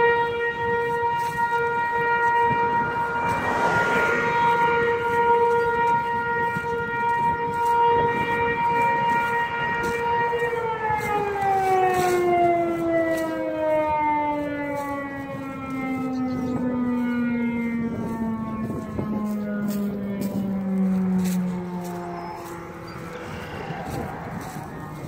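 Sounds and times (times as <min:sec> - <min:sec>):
warning siren winding down: 0:00.0 - 0:25.0.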